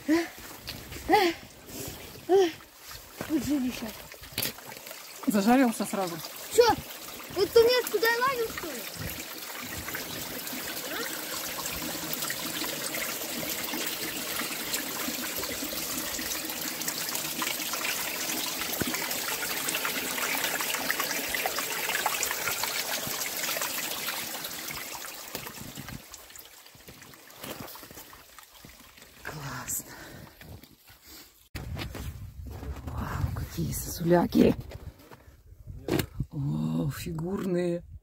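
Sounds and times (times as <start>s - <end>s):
water running under ice: 0.0s - 31.5s.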